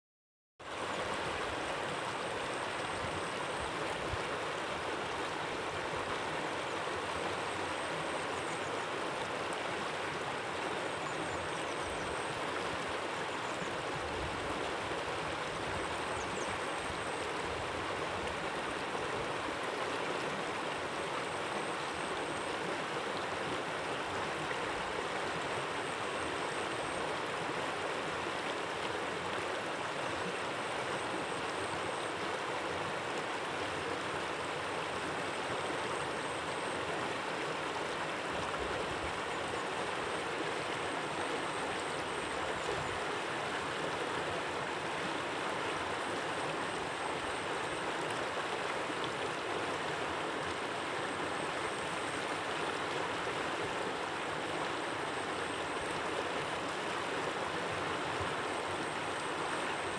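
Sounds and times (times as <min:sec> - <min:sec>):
stream running among rocks: 0:00.6 - 0:59.9.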